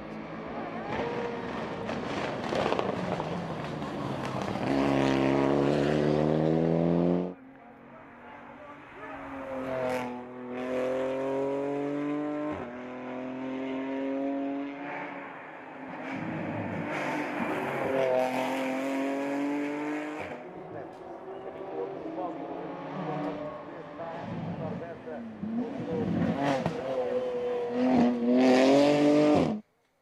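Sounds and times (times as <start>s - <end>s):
race car accelerating hard: 0.0s - 29.6s
race car passing at full throttle: 0.0s - 29.6s.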